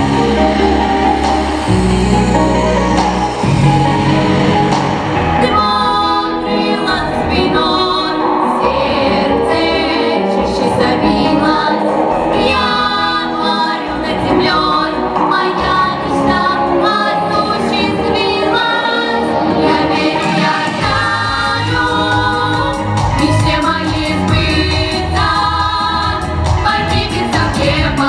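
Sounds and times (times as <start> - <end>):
girls singing together: 5.4 - 28.0.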